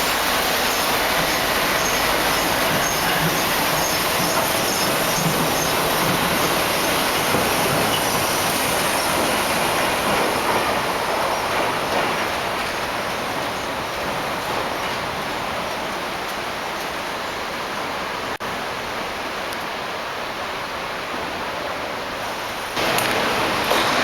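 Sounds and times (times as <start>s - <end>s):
train rolling on rail: 0.0s - 24.0s.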